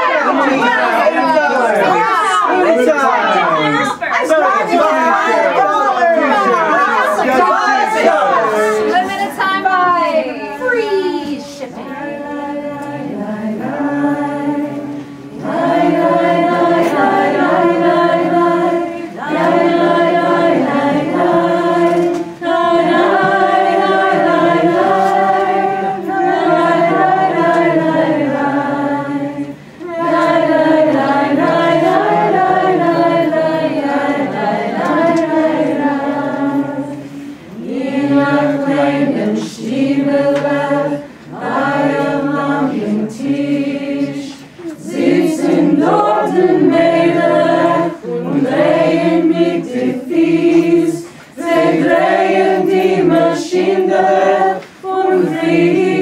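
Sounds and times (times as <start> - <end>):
group singing unaccompanied: 0.0 - 56.0.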